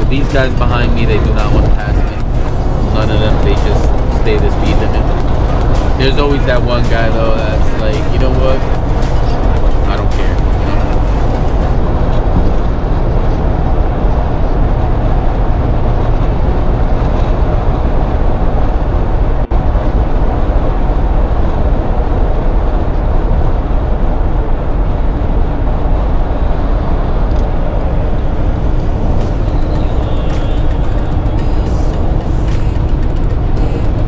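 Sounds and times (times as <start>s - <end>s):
car road and wind noise: 0.0s - 34.0s.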